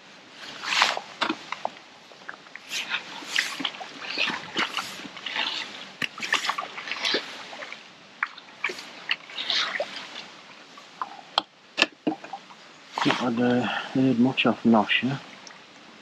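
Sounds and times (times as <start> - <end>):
water splashing and dripping: 0.5 - 13.9.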